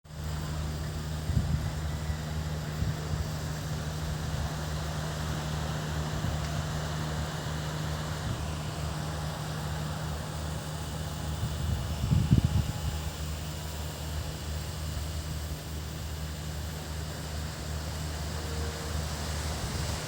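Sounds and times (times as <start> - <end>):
sea along shoreline: 0.1 - 20.0.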